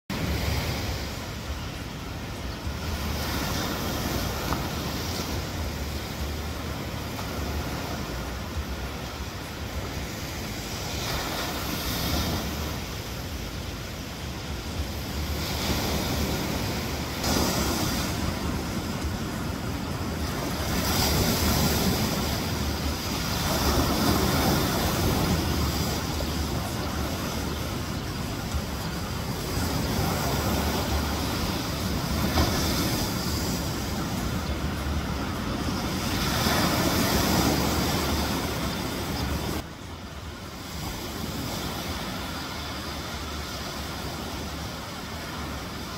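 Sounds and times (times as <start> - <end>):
ocean surf breaking on beach: 0.1 - 45.9.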